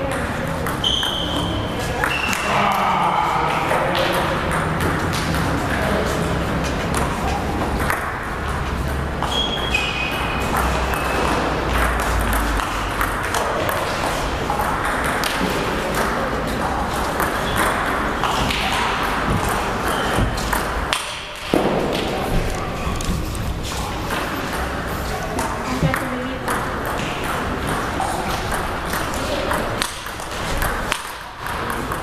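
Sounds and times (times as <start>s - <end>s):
table tennis balls clicking: 0.0s - 2.6s, 3.7s - 32.0s.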